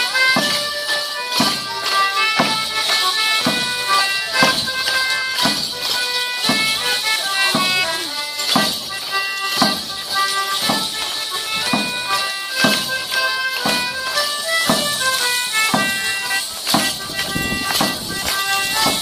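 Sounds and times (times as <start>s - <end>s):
high piped melody: 0.0s - 19.0s
sharp drum beat: 0.3s - 0.8s, 1.4s - 19.0s.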